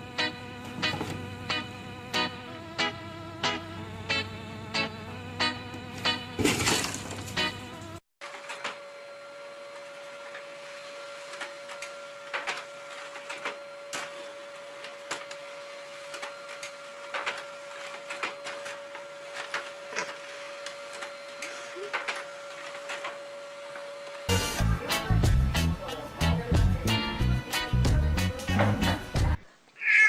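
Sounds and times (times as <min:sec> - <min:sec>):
small machine humming and whirring: 0:00.0 - 0:06.4, 0:07.1 - 0:25.0.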